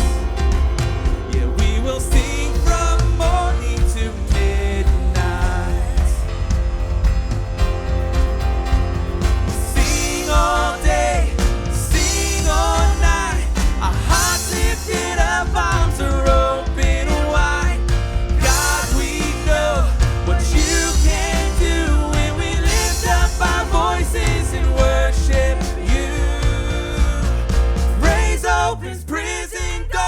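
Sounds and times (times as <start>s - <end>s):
person singing: 0.0s - 7.0s, 9.4s - 30.0s
live rock band playing: 0.0s - 28.3s.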